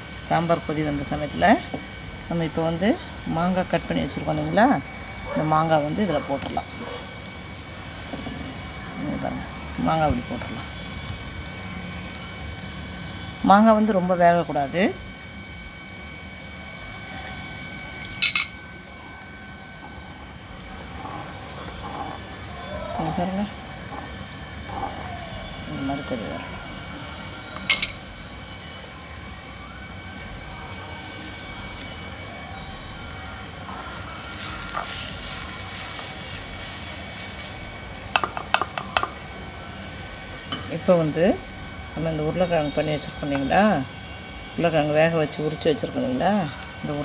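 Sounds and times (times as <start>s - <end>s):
faint background hum: 0.0s - 47.0s
food sizzling in pots: 0.0s - 47.0s.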